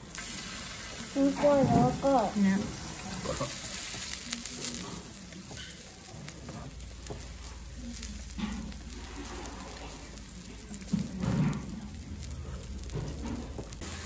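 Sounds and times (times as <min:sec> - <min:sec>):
meat sizzling on a griddle: 0:00.0 - 0:14.0.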